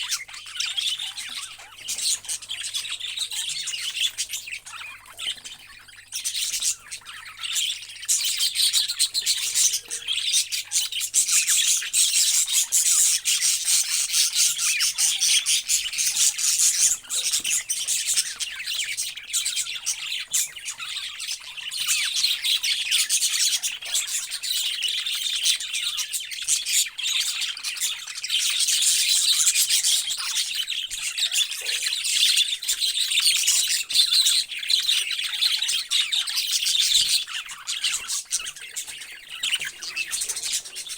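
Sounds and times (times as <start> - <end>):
parrots chattering and chirping: 0.0 - 40.9.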